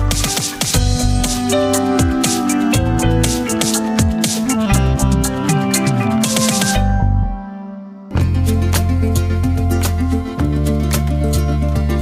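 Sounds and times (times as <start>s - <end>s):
electronic music with drum beat: 0.0s - 7.5s, 8.2s - 12.0s.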